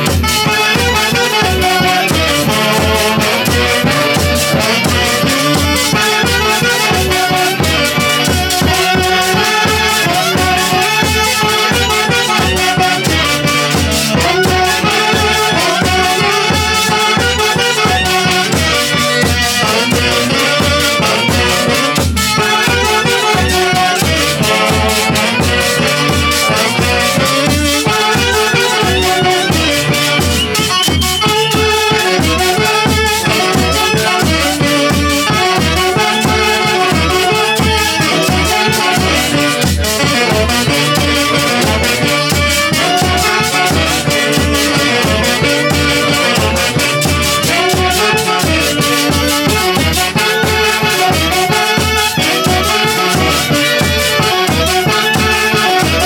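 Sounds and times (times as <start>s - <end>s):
orchestra playing dance tune: 0.3s - 56.0s.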